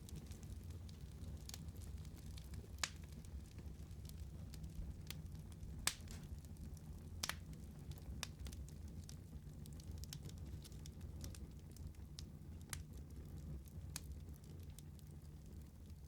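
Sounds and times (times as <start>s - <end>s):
fire crackles and pops: 0.0s - 16.0s
fire flame rumble: 0.0s - 16.0s.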